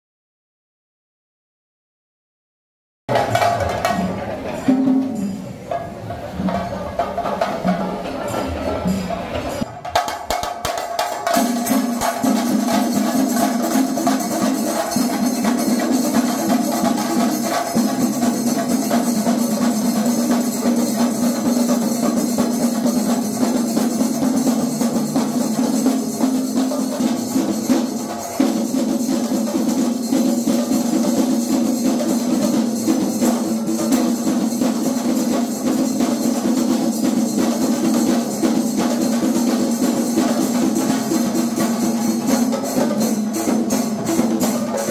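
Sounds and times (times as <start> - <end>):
drums beaten in fast roll: 3.1 - 44.9.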